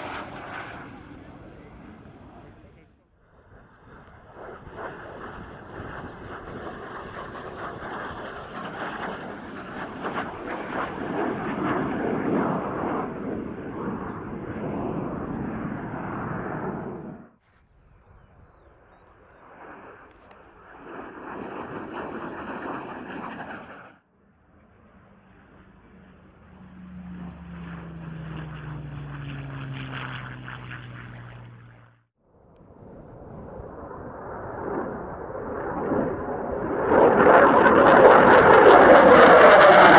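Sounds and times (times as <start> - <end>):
jet aircraft flying overhead: 0.0 - 39.9
propeller plane engine passing: 0.0 - 39.9.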